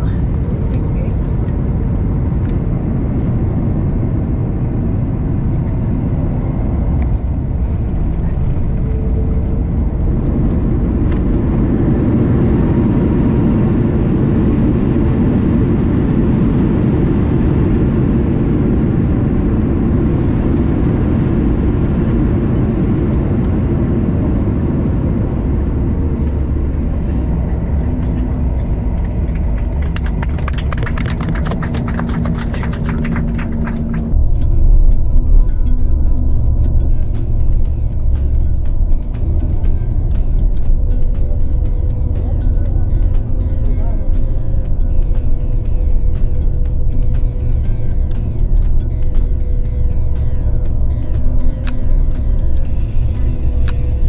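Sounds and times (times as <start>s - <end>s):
aircraft engines rumbling: 0.0s - 54.0s.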